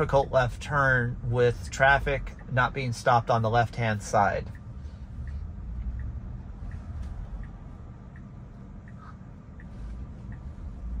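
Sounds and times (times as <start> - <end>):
low cabin rumble: 0.0 - 11.0
turn signal ticking: 0.0 - 11.0.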